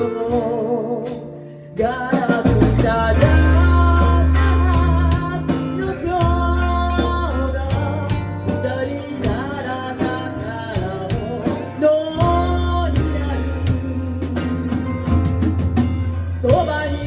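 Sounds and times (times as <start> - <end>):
band playing pop-rock song: 0.0 - 17.0.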